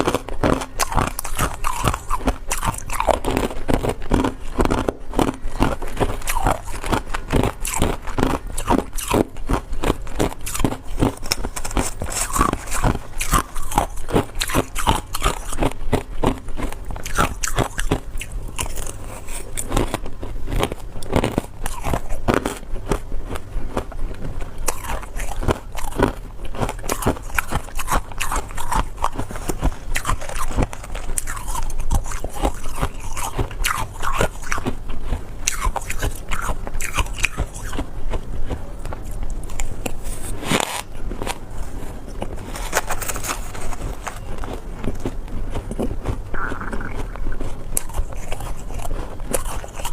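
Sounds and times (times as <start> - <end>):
ice crunching while chewed: 0.0 - 49.9.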